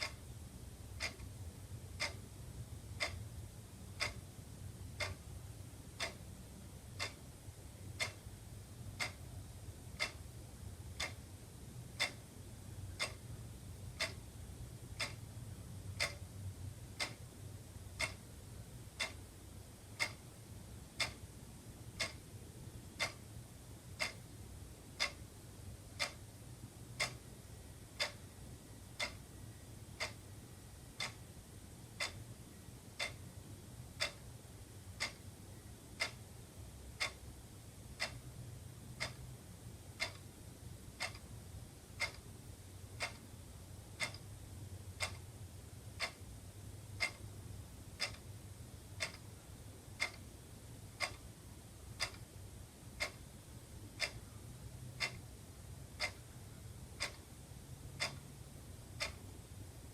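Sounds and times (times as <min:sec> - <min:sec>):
faint low hum: 0:00.0 - 0:59.9
wall clock ticking: 0:00.0 - 0:59.9.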